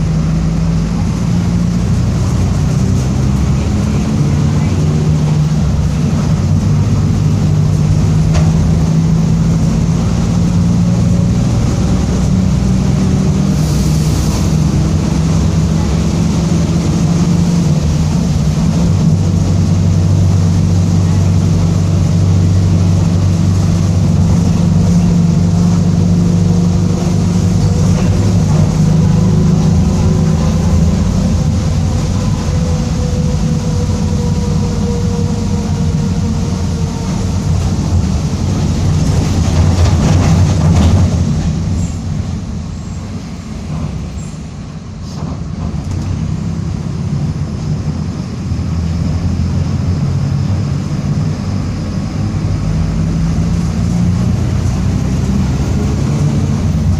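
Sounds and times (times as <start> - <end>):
bus diesel engine droning: 0.0 - 56.9.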